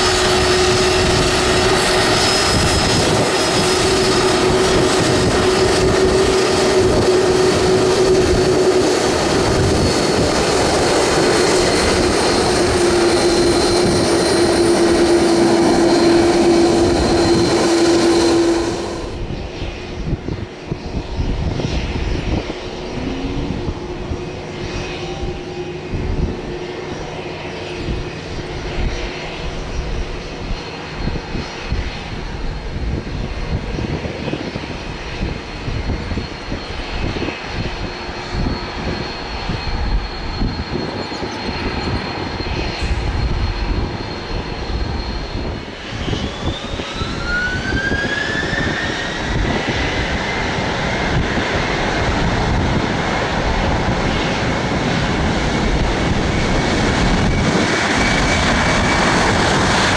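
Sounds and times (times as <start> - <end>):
aircraft engines rumbling and whining: 0.0 - 59.9.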